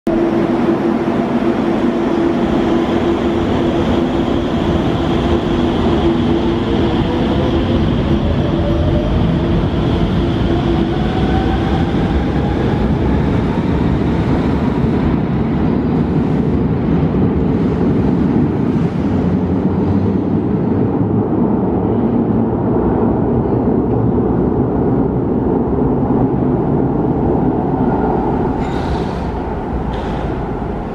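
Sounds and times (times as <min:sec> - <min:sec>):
heavy train rumble: 0:00.1 - 0:30.9.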